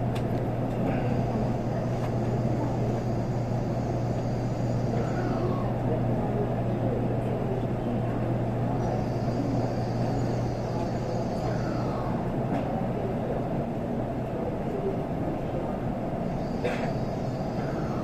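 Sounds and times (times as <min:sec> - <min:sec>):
constant low hum: 0:00.0 - 0:18.0
train rumble: 0:00.0 - 0:18.0.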